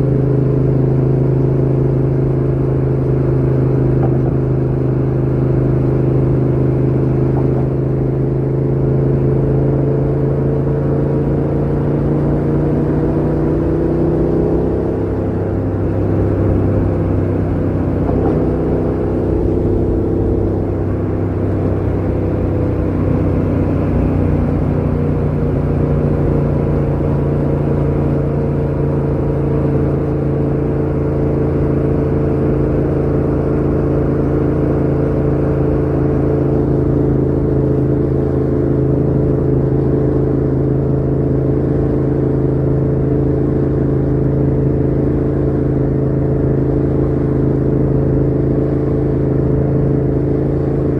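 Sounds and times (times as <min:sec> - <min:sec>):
motorcycle engine running steadily: 0:00.0 - 0:50.9.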